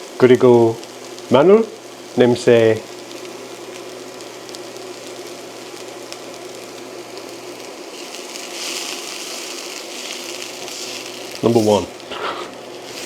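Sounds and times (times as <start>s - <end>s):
onion sizzling in a frying pan: 0.0s - 13.0s.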